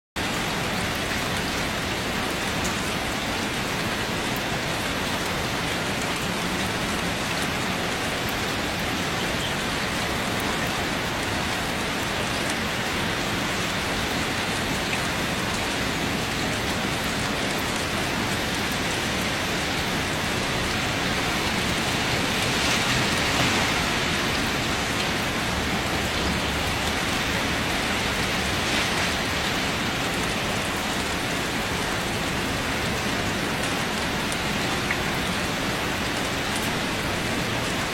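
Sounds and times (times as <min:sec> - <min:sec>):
steady rain falling: 0:00.2 - 0:37.9.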